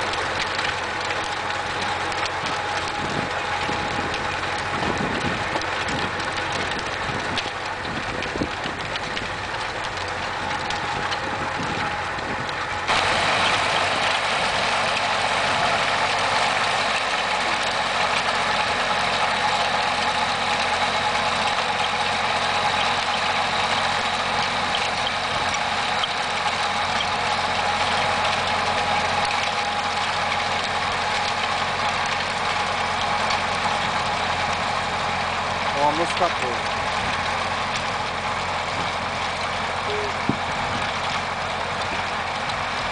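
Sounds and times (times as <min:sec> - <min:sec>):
tractor engine running under load: 0:00.0 - 0:42.9.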